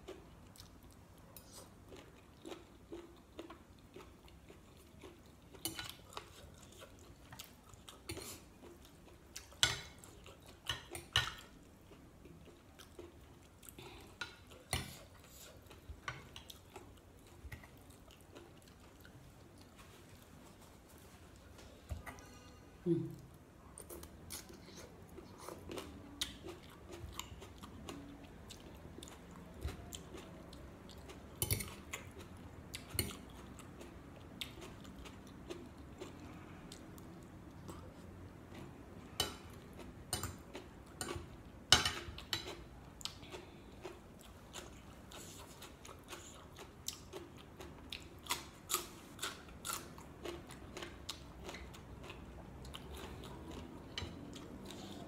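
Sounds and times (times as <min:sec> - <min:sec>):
person chewing with wet clicks: 0:00.0 - 0:20.7, 0:23.2 - 0:55.0.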